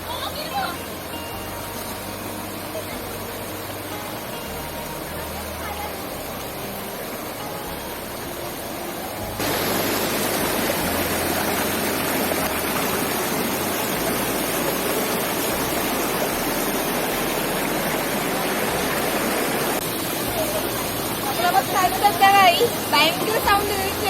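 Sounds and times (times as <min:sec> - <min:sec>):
small waterfall rushing: 0:00.0 - 0:24.0.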